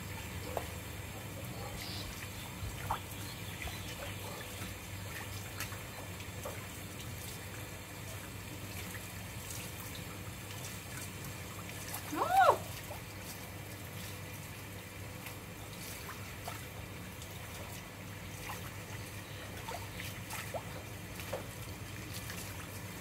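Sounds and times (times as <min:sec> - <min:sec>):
water from hose splashing: 0:00.0 - 0:23.0.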